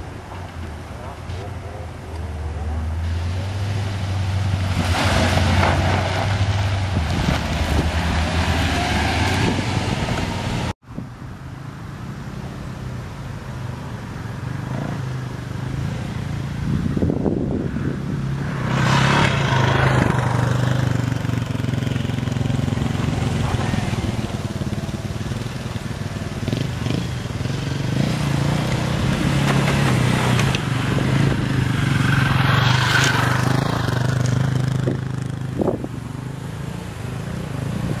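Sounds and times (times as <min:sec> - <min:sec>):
vehicle engines running at low speed: 0:00.0 - 0:38.0.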